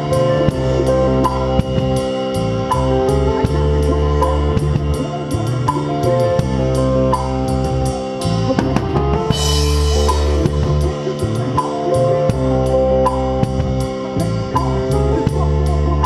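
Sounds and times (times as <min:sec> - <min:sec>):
drum kit playing a groove: 0:00.0 - 0:16.0
guitar: 0:00.0 - 0:16.0
sustained bass: 0:00.0 - 0:16.0.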